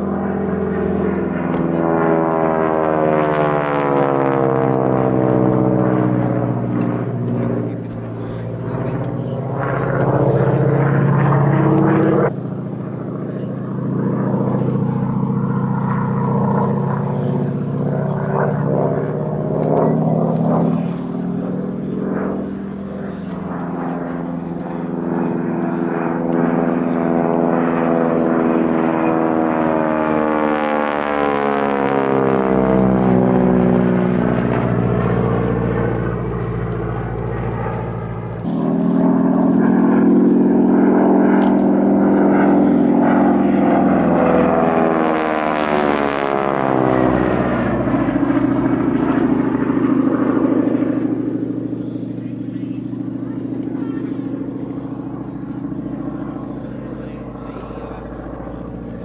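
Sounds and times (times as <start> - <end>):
propeller plane engine in flight: 0.0 - 59.0.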